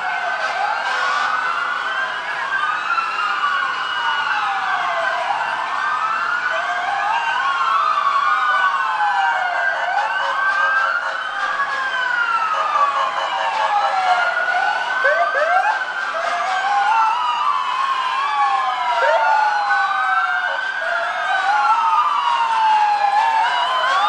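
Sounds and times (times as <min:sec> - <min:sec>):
emergency sirens wailing: 0:00.0 - 0:24.0
siren whoops: 0:00.0 - 0:24.0.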